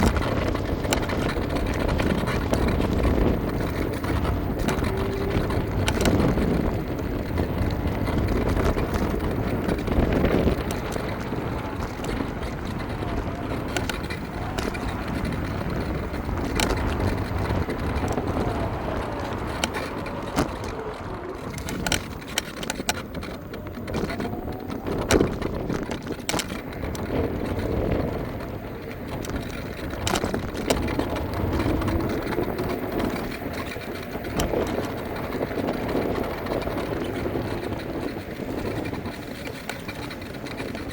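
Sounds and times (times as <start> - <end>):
faint motor whine: 0.0 - 40.9
road rumble: 0.0 - 40.9
scooter clicks and knocks over bumps: 0.0 - 40.9
wind: 0.0 - 40.9.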